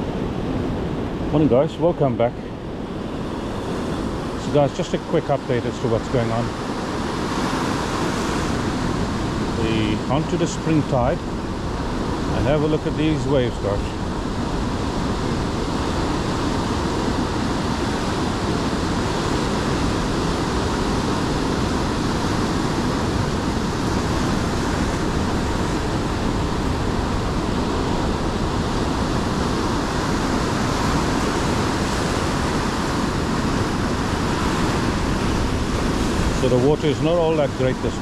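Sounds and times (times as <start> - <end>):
ocean waves breaking: 0.0 - 38.0.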